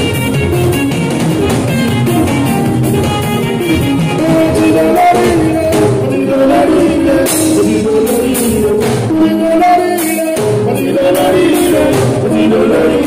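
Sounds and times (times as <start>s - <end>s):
busy percussion beat: 0.0s - 13.0s
person singing: 2.0s - 13.0s.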